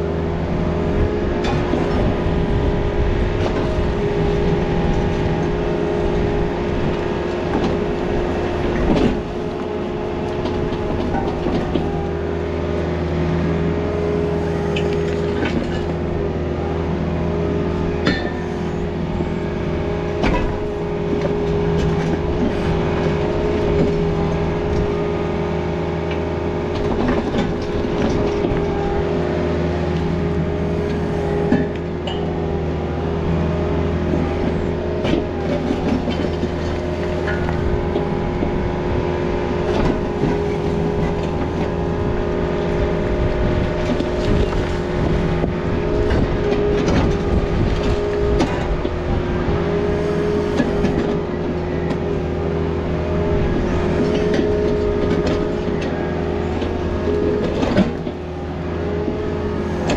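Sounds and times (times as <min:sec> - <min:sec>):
diesel engine running: 0:00.0 - 0:59.9
hydraulic whine: 0:00.0 - 0:59.9.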